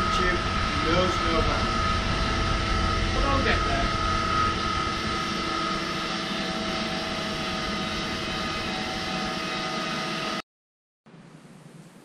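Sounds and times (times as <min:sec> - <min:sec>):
electric fan rushing hum: 0:00.0 - 0:10.4.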